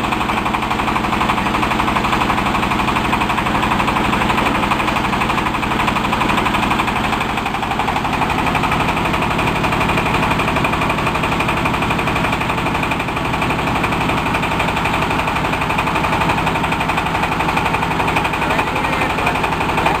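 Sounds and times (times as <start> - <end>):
pellet machine pulsing drone: 0.0 - 20.0.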